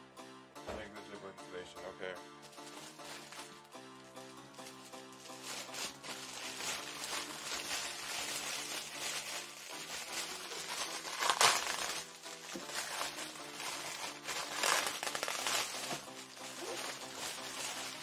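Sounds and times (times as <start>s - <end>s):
background music with held notes: 0.0s - 18.0s
plastic wrap crinkling: 2.4s - 18.0s.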